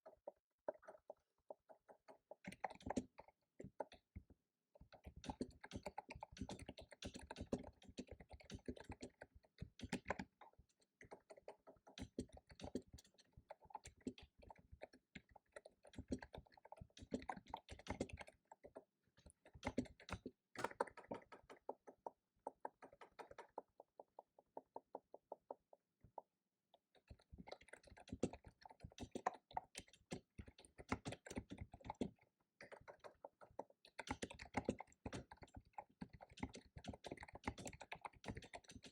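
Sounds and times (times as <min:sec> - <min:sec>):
typing on computer keyboard: 0:04.9 - 0:10.4, 0:11.1 - 0:25.8, 0:27.0 - 0:38.9.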